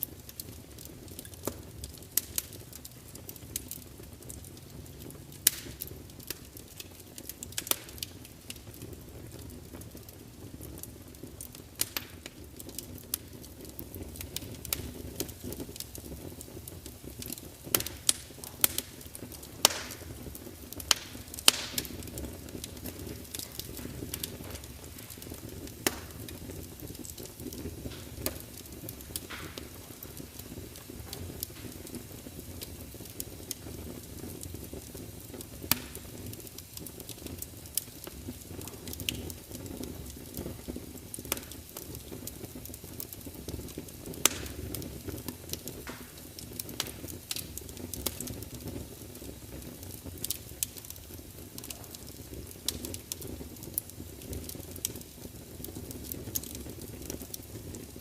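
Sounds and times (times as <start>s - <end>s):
log fire crackling and popping: 0.0s - 58.0s.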